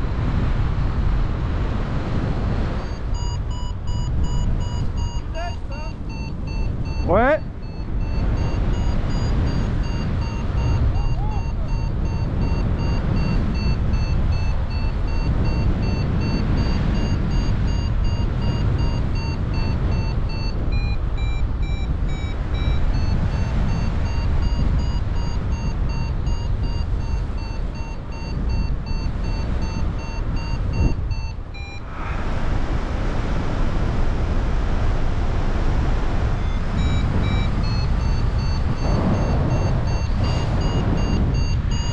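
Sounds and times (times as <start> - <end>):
wind rushing over microphone: 0.0 - 41.9
variometer beeping: 2.7 - 31.9, 35.8 - 41.9.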